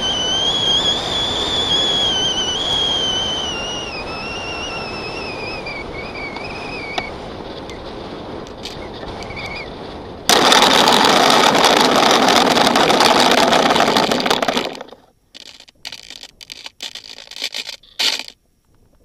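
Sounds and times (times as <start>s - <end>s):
drone motors and propellers: 0.0s - 18.4s.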